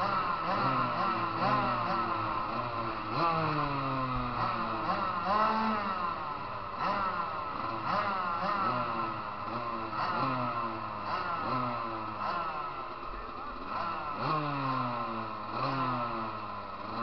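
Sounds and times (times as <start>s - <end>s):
motocross bikes revving: 0.0s - 17.0s.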